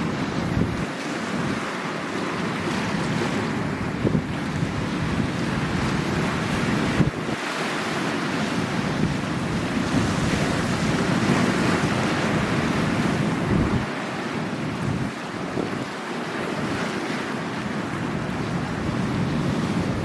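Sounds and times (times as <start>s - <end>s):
wind buffeting microphone: 0.0s - 1.7s, 2.3s - 17.0s, 17.7s - 20.0s
sea waves washing on shore: 0.0s - 20.0s.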